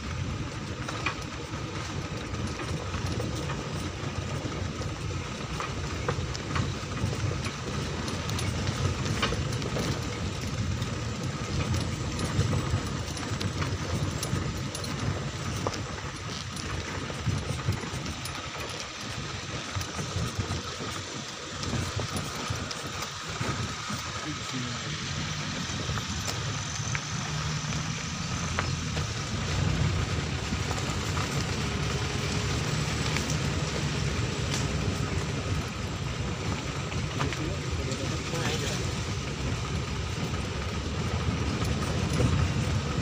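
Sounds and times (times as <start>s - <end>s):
rattles and knocks from bumps: 0.0s - 43.0s
vehicle engine running: 0.0s - 43.0s.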